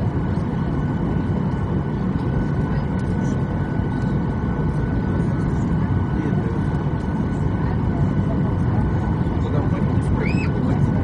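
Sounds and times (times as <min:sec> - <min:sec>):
airplane cabin engine rush: 0:00.0 - 0:11.0.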